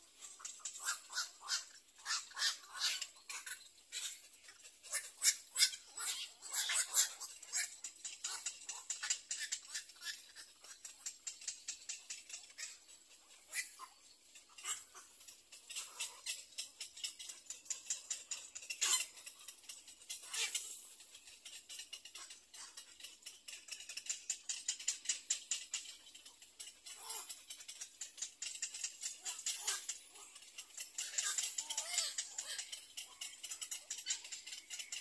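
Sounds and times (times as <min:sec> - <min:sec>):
small animal calls chattering: 0:00.0 - 0:35.0.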